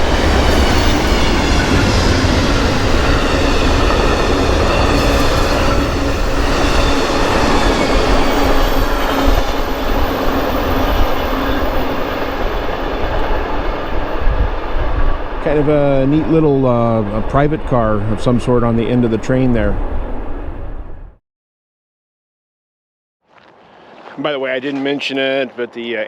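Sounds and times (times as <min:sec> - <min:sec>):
train wheels rumbling on rail: 0:00.0 - 0:21.2.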